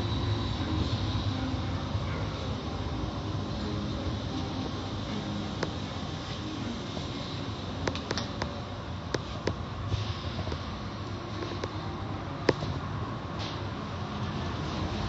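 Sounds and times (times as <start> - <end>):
car wash rumble and spray: 0.0 - 15.0.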